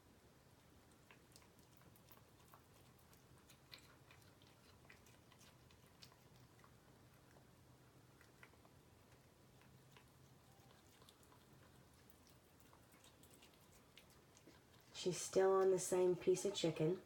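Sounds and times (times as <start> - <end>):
cat chewing raw meat: 0.3 - 15.9.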